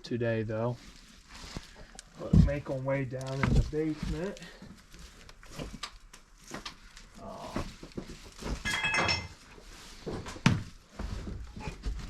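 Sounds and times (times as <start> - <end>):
footsteps over debris: 0.6 - 12.0.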